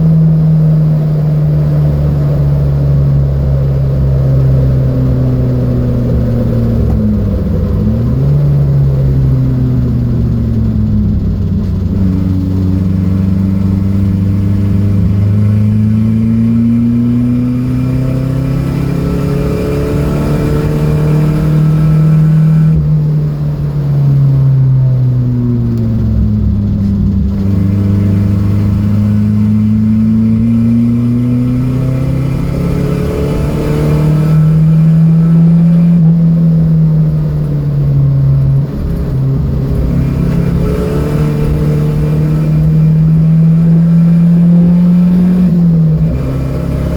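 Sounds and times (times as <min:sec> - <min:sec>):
race car engine revving: 0:00.0 - 0:46.9
wind and road noise: 0:00.0 - 0:46.9.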